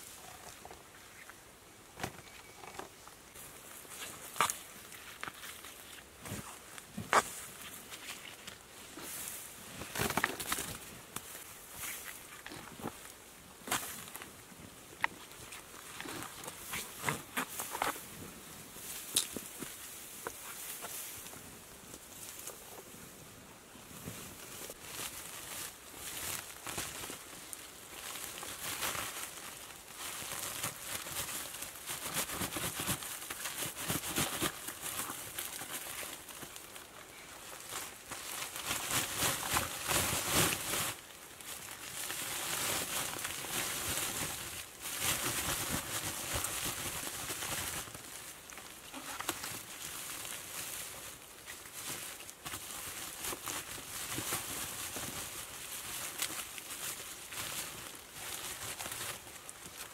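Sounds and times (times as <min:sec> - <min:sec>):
dry leaves rustling underfoot: 0:00.0 - 0:59.9
plastic sack rustling: 0:02.0 - 0:21.3, 0:23.8 - 0:59.9.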